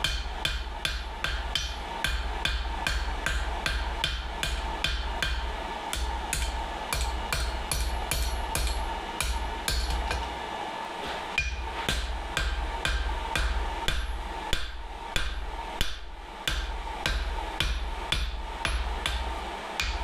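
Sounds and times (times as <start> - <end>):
hammer striking steel on anvil: 0.0 - 10.4, 11.3 - 20.0.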